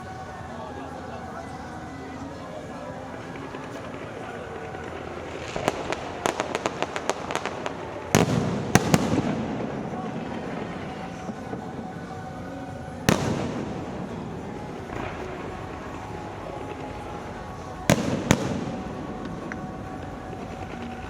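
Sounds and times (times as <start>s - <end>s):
firecrackers cracking: 2.1s - 21.0s
fireworks heavy bangs: 3.0s - 21.0s.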